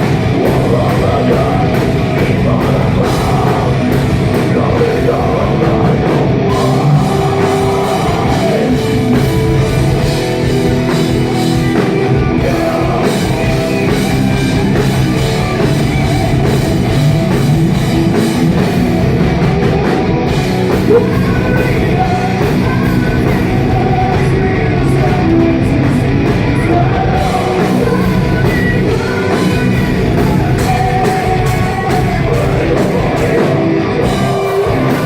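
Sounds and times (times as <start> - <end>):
live metal band playing: 0.0 - 35.0.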